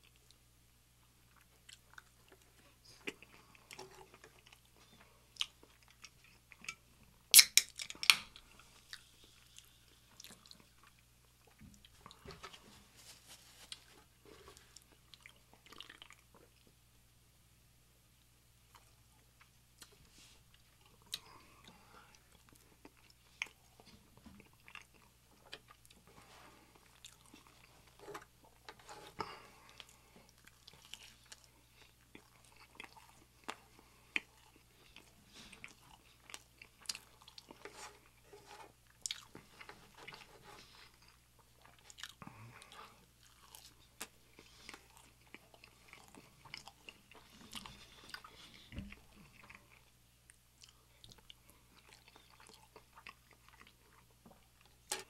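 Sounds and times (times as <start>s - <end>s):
chewing and wet mouth sounds: 1.2s - 12.6s, 13.7s - 16.8s, 18.7s - 55.0s.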